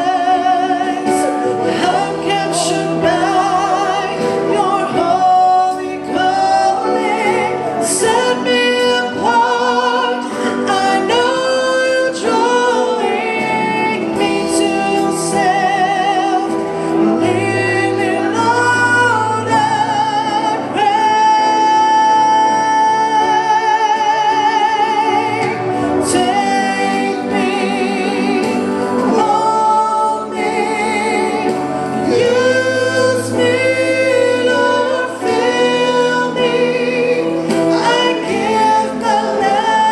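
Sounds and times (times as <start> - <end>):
band playing: 0.0 - 39.9
woman singing gospel with vibrato: 0.0 - 39.9.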